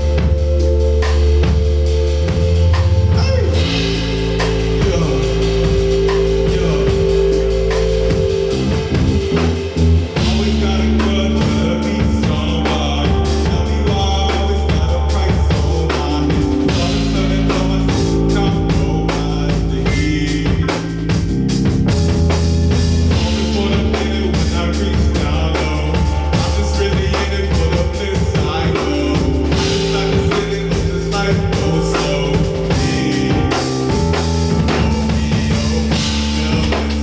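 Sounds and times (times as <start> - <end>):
bass drum and snare hits: 0.0 - 37.0
live band playing: 0.0 - 37.0.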